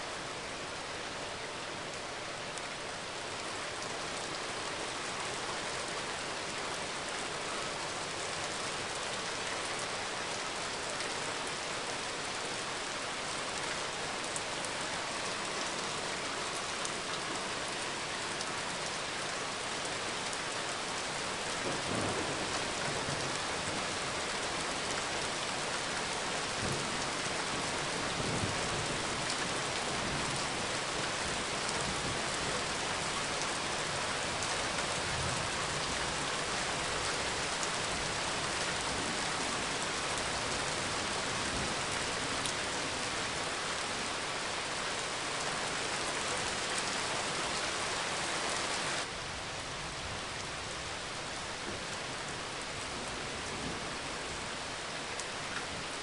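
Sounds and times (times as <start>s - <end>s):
rain falling on pavement: 0.0s - 56.0s.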